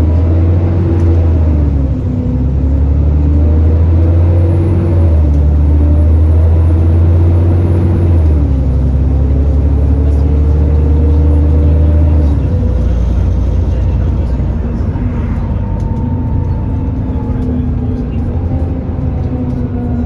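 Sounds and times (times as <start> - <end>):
bus diesel engine rumbling: 0.0 - 20.0
high whine and whirr: 0.0 - 20.0.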